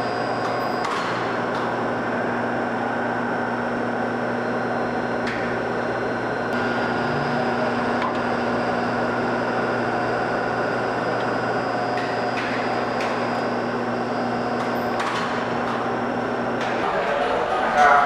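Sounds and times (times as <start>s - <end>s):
elevator machinery humming: 0.0s - 18.0s.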